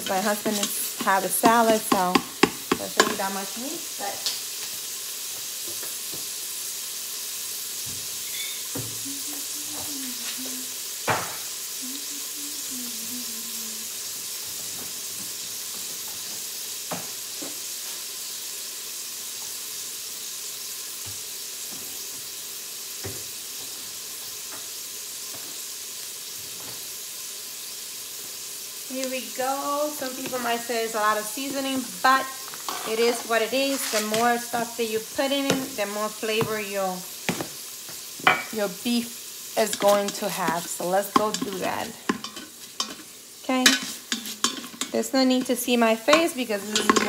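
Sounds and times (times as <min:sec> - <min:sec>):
ground beef sizzling in a pot: 0:00.0 - 0:47.0.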